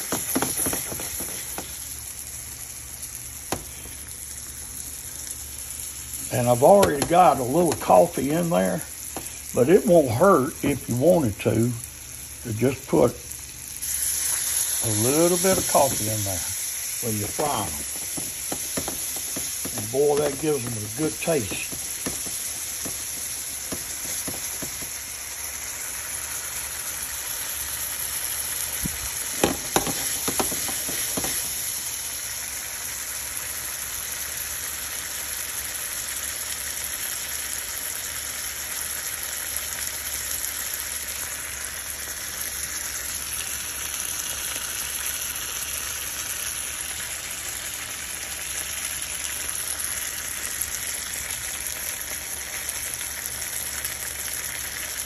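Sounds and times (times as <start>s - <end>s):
patties sizzling in oil: 0.0s - 55.0s.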